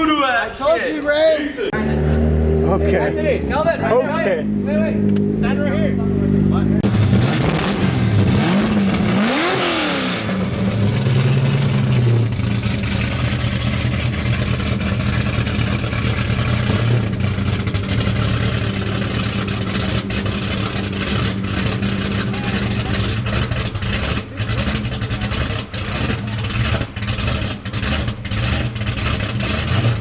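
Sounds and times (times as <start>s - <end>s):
car engine revving and idling: 1.6s - 30.0s.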